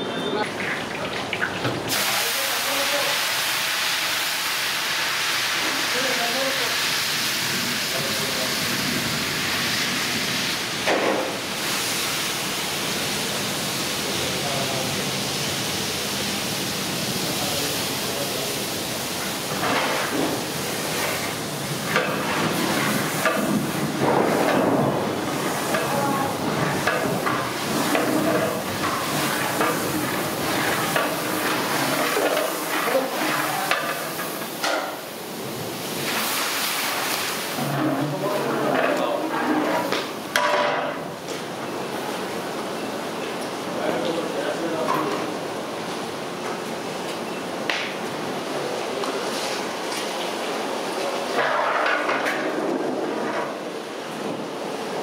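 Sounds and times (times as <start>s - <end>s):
water boiling and bubbling: 0.0s - 55.0s.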